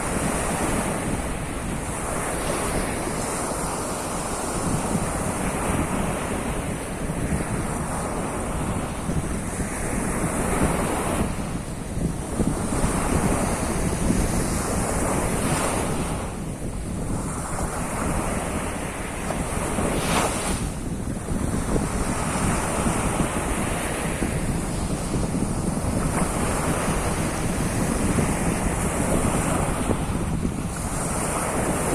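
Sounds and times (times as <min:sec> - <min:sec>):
surf washing onto shore: 0:00.0 - 0:31.9
wind buffeting microphone: 0:00.0 - 0:31.9.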